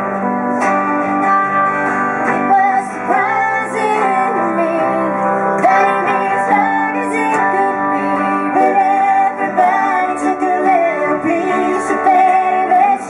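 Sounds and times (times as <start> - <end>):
guitar strumming: 0.0 - 13.0
woman singing: 2.2 - 13.0.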